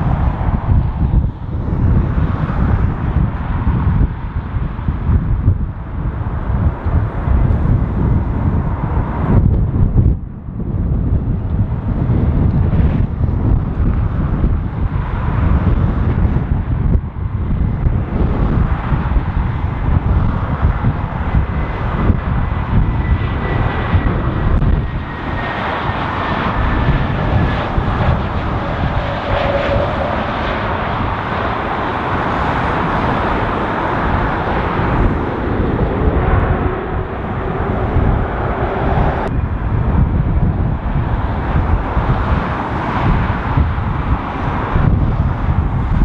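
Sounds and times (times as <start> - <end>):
distant jet engines: 0.0 - 46.0
faint high engine whine: 0.0 - 46.0
jet engine roar: 0.0 - 46.0
wind buffeting microphone: 0.0 - 46.0.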